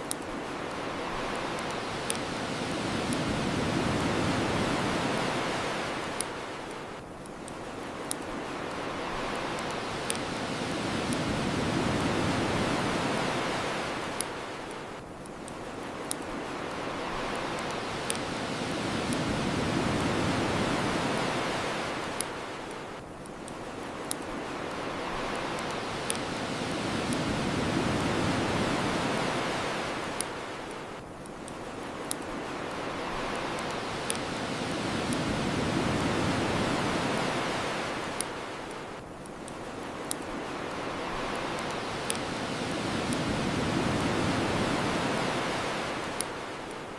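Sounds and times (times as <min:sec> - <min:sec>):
bonfire crackling and popping: 0:00.0 - 0:46.9
ocean waves washing onto shore: 0:00.0 - 0:46.9.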